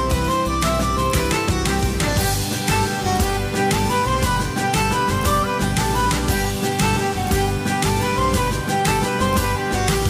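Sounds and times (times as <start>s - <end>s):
instrumental string music with beat: 0.0s - 10.0s.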